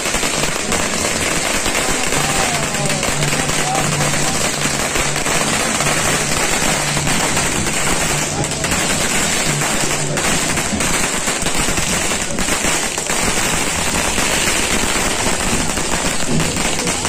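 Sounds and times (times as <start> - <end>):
string of firecrackers banging: 0.0 - 17.0.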